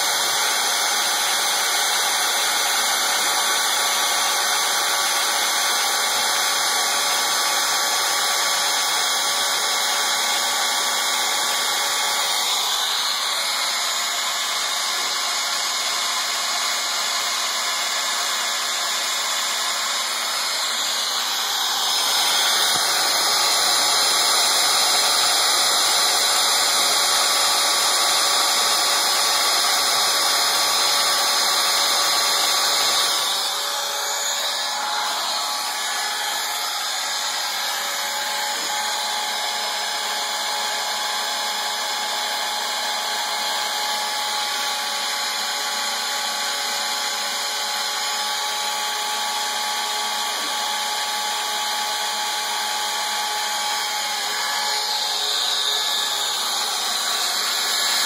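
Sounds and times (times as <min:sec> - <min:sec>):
router spindle carving wood: 0:00.0 - 0:58.0.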